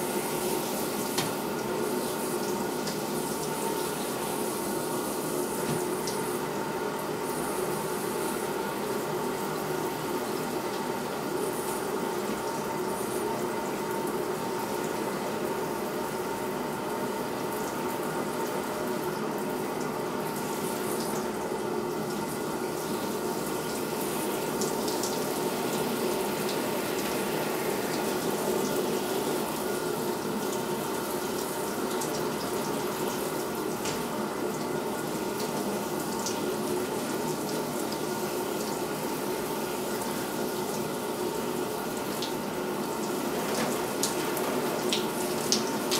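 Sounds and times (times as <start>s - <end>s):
shower spray running: 0.0s - 45.9s.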